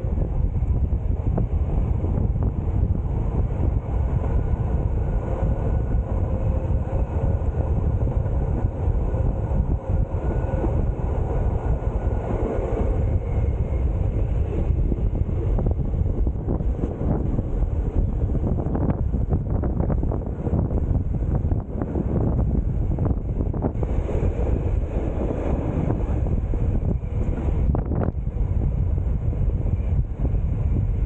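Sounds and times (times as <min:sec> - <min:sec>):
train wheels rumbling on track: 0:00.0 - 0:31.0
wind buffeting microphone: 0:00.0 - 0:31.0.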